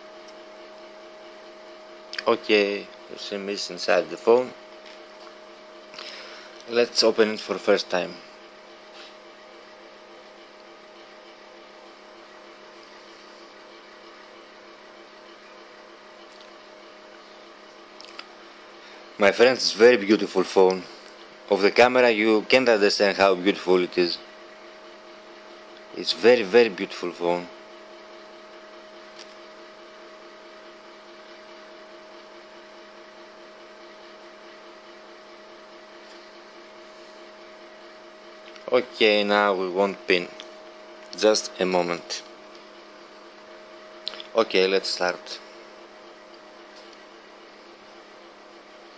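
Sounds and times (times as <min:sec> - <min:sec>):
electrical hum: 0:00.0 - 0:48.9.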